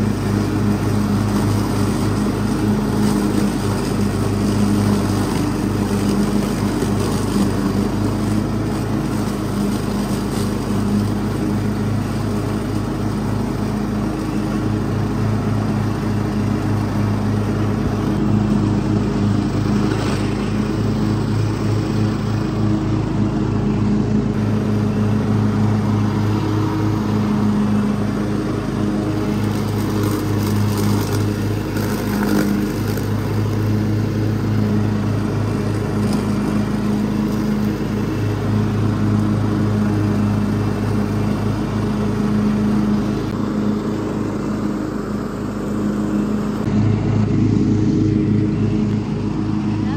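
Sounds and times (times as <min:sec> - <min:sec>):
riding lawn mower engine: 0:00.0 - 0:49.9.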